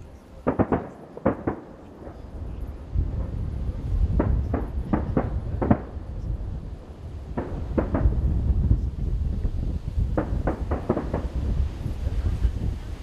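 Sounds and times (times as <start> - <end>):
distant firework bangs: 0.0 - 13.0
steady low rumble: 0.0 - 13.0.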